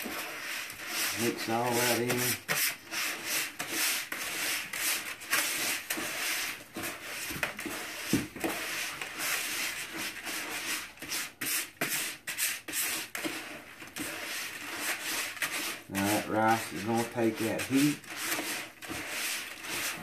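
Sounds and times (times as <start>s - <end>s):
scraping against plastic bucket: 0.0s - 20.0s.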